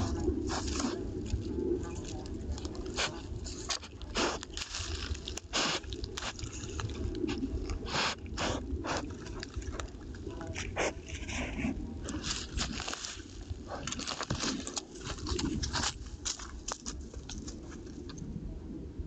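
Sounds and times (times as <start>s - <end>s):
boar crunching on dry ground: 0.0s - 18.2s.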